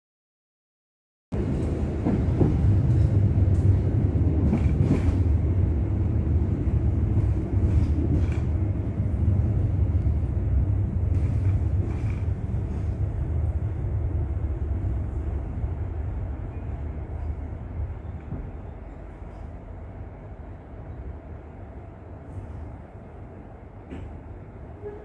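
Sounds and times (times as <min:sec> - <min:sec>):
train low rumble: 0:01.3 - 0:25.0.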